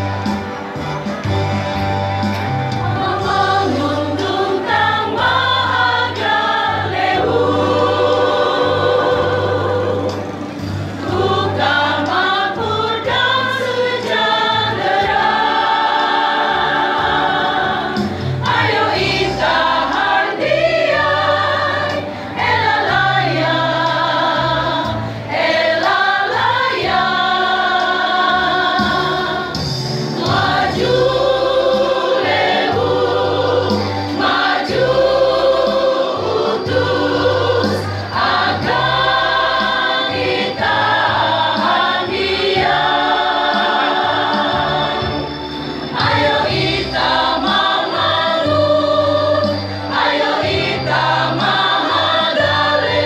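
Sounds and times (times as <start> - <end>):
mixed choir singing: 0.0 - 53.0.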